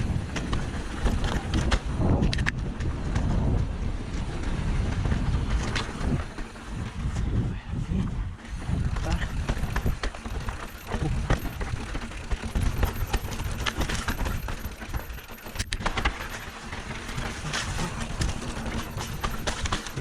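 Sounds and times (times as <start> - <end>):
bike rattling and knocking: 0.0 - 7.5, 8.3 - 20.0
continuous low rumble: 0.0 - 20.0.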